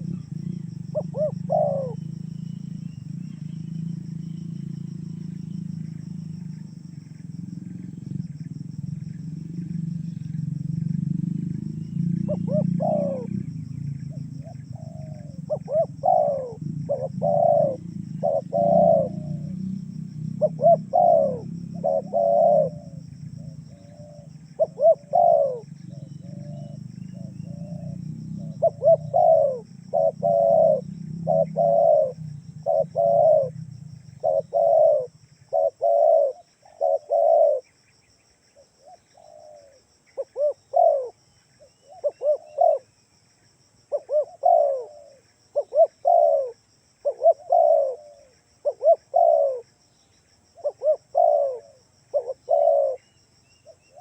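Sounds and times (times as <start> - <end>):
dove cooing: 0.0 - 37.7, 38.6 - 42.9, 43.9 - 49.7, 50.6 - 54.0.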